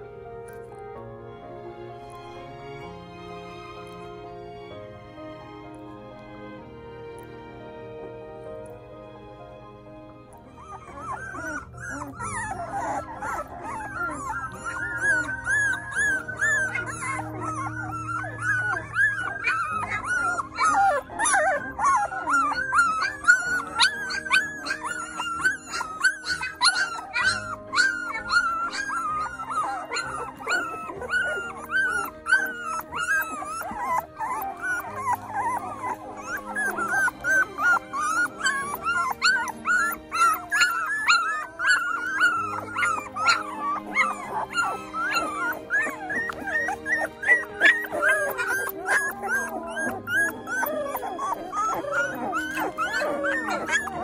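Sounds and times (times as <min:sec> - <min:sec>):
puppies whimpering and squeaking: 0:00.0 - 0:00.8, 0:01.5 - 0:54.0.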